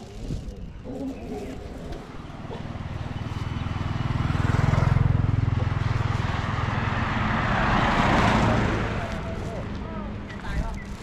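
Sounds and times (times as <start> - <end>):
motorcycle passing: 0.8 - 11.0.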